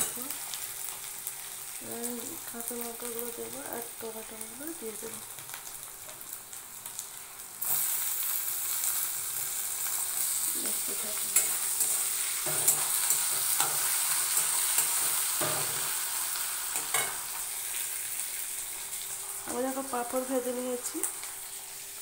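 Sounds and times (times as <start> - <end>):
onions sizzling in oil: 0.0 - 22.0.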